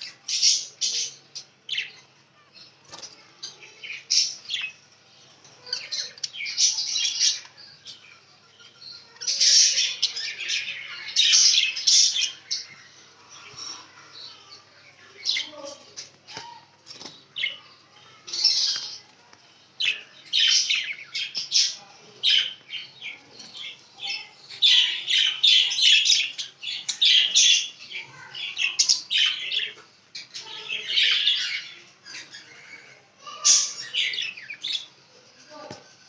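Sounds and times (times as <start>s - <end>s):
budgerigars chirping and chattering: 0.0s - 36.0s.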